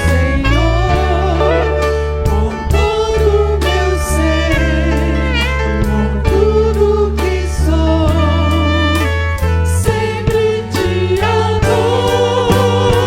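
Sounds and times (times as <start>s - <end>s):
gospel song played by band: 0.0s - 13.0s.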